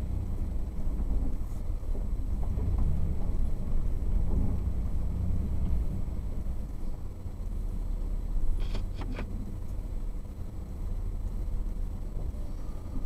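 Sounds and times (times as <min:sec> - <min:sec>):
vehicle rumbling on dirt road: 0:00.0 - 0:13.0.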